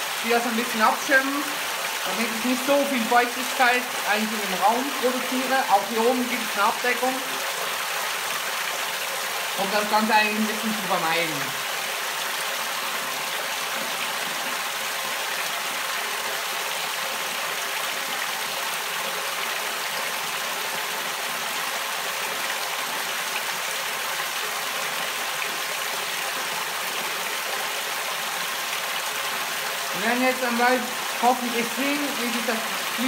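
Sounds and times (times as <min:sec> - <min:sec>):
water pouring and splashing: 0:00.0 - 0:33.0.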